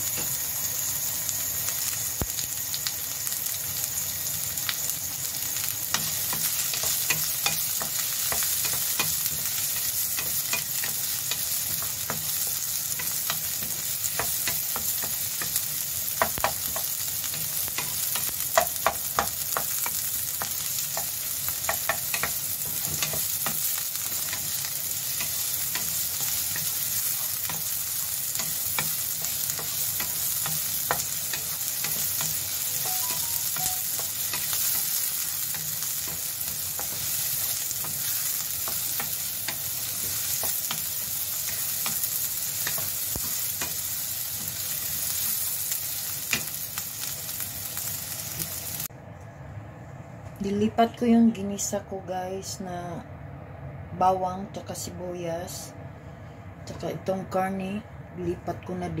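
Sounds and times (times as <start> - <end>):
onions sizzling in hot oil: 0.0 - 48.9.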